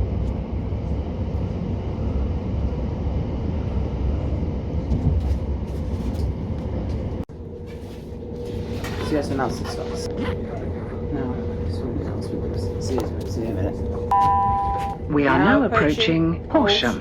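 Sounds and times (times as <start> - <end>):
train carriage rumbling: 0.0 - 17.0.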